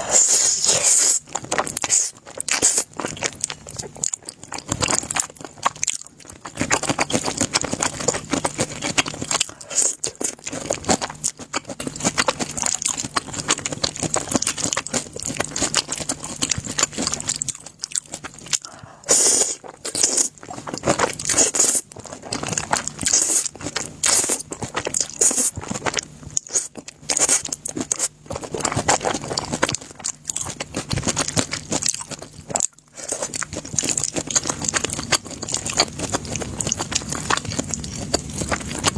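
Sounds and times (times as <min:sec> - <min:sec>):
noodles slurped and chewed: 0:00.0 - 0:38.9
crunchy bites: 0:00.1 - 0:38.9.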